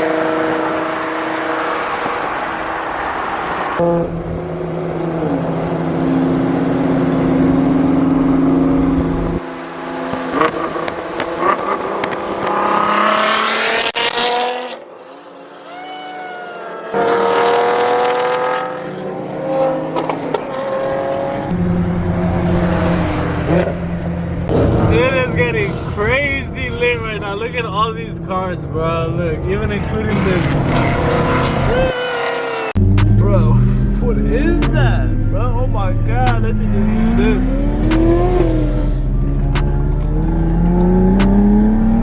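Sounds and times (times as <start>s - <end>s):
car engines revving: 0.0s - 15.8s, 16.8s - 42.0s.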